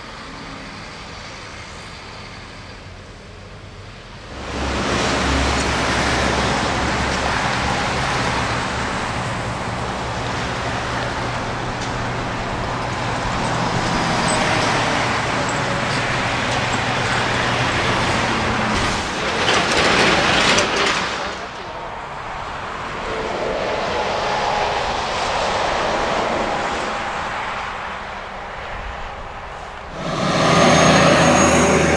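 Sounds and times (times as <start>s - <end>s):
heavy trucks driving past: 0.0s - 31.9s
tyre and road noise: 0.0s - 31.9s.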